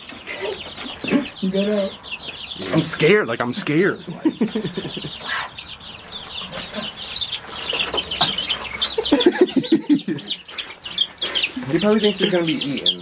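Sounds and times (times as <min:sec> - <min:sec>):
baby chicks peeping: 0:00.0 - 0:13.0
low clucking calls: 0:00.0 - 0:13.0.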